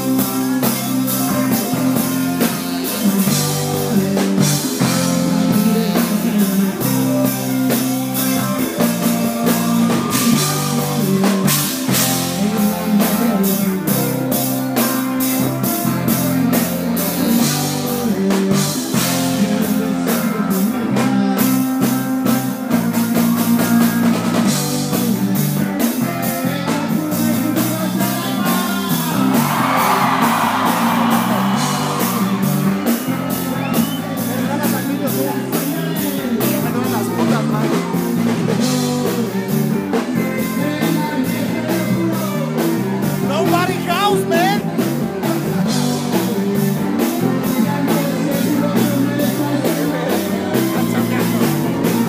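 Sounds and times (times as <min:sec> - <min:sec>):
live rock band playing: 0:00.0 - 0:52.0
person singing: 0:00.0 - 0:52.0.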